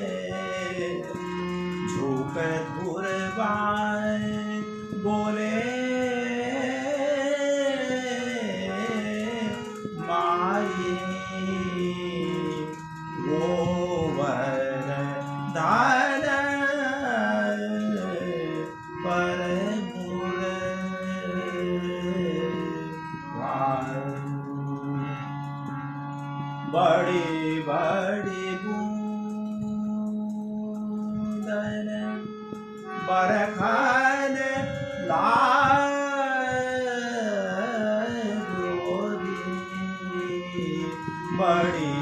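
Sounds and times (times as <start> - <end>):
person singing: 0.0 - 25.7, 26.6 - 42.0
steady held drone: 0.0 - 42.0.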